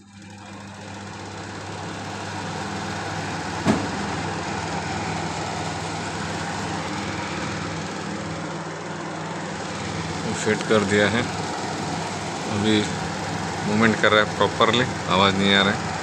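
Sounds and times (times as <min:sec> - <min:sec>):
air cooler fan running: 0:00.0 - 0:16.0.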